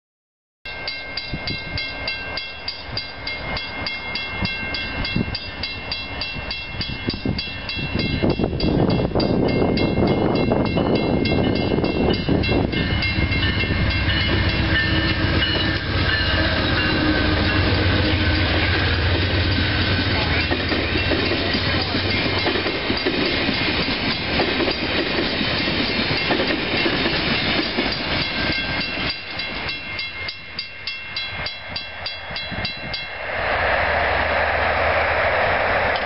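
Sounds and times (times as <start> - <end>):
crossing warning bell ringing: 0.7 - 33.2
train wheels on rails: 0.7 - 36.0.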